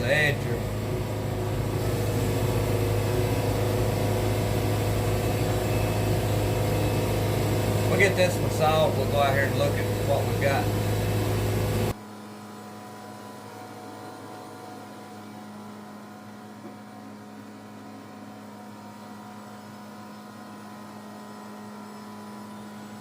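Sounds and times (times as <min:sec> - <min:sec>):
sawmill engine humming: 0:00.0 - 0:23.0.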